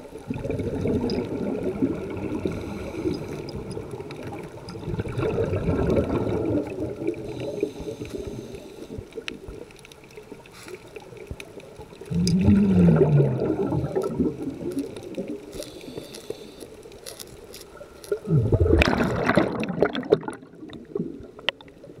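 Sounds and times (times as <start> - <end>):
scuba regulator bubbles burbling: 0.0 - 10.2, 11.0 - 16.6, 17.7 - 22.0.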